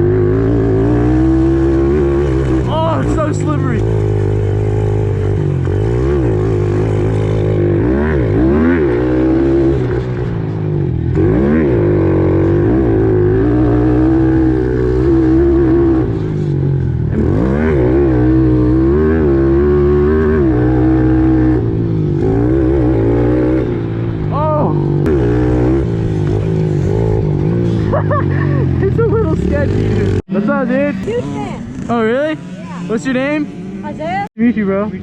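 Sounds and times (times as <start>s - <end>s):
motorbike engine revving: 0.0s - 34.8s.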